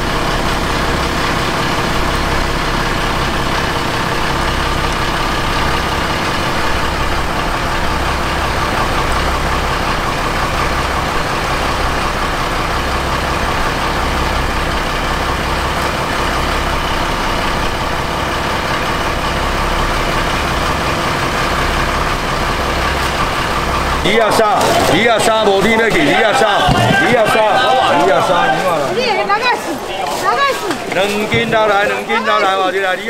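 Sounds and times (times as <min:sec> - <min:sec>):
boat engine idling: 0:00.0 - 0:33.0.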